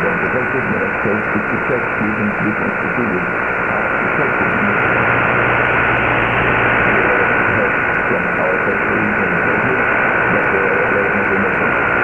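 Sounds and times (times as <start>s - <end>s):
faint voice under noise: 0.0s - 4.8s, 6.8s - 11.8s
radio static hiss: 0.0s - 12.0s.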